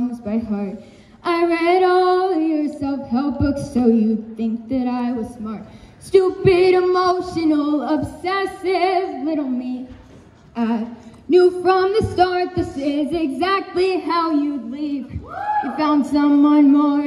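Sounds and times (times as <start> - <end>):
girl singing with vibrato: 0.0 - 10.0, 10.6 - 17.0.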